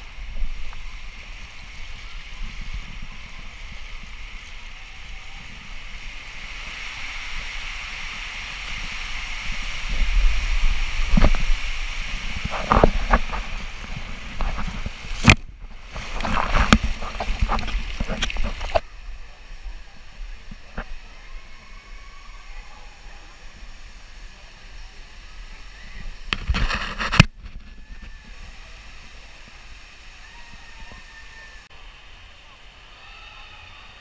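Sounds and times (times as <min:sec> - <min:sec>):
rider sliding down water slide: 0:00.0 - 0:32.2
rushing water: 0:00.0 - 0:34.0
water splashing: 0:00.0 - 0:34.0.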